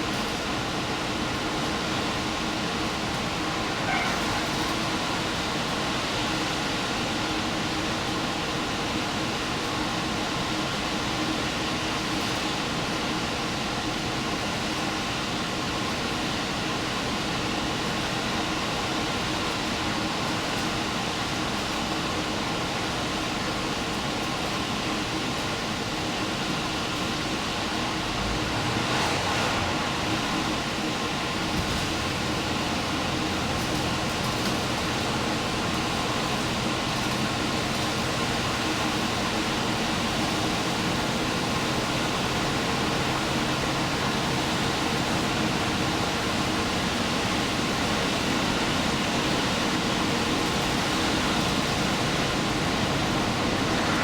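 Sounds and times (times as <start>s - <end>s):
train running noise: 0.0s - 54.0s.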